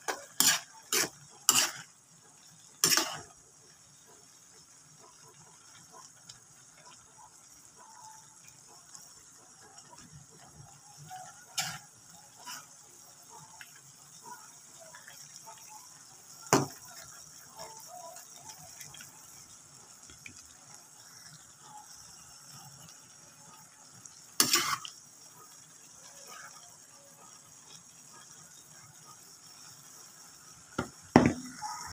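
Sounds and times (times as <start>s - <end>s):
noodles sizzling in a wok: 0.0s - 31.9s.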